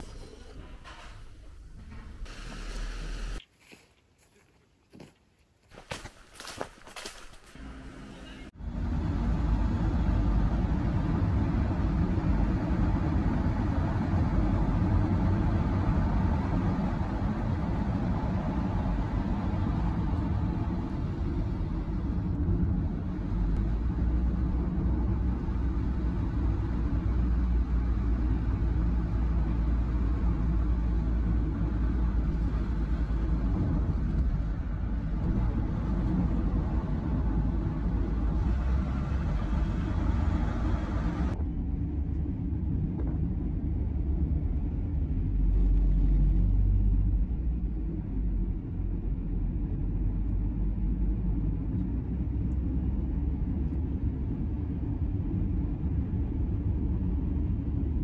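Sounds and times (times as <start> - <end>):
car cabin road noise: 7.4 - 58.0.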